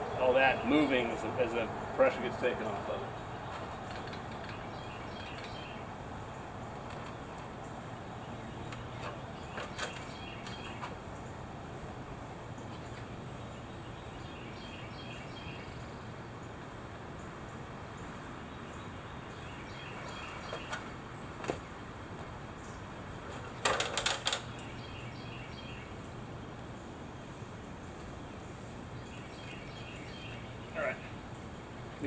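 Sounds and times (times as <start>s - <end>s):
faint bird chirping: 0.0s - 11.5s, 12.1s - 21.8s, 24.4s - 32.0s.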